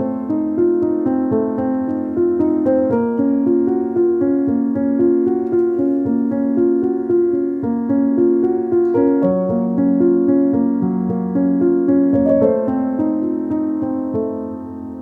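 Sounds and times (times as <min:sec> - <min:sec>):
calm keyboard music: 0:00.0 - 0:15.0.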